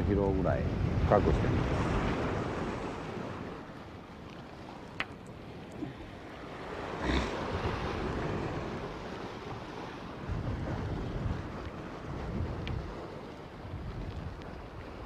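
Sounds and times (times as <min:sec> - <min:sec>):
wind buffeting microphone: 0:00.0 - 0:15.0
sea washing against rocks: 0:00.1 - 0:15.0.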